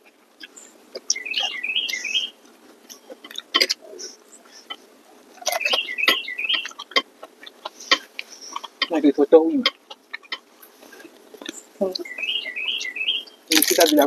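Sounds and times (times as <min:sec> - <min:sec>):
people chewing and smacking: 0:00.0 - 0:14.0
songbird warbling: 0:00.4 - 0:13.9.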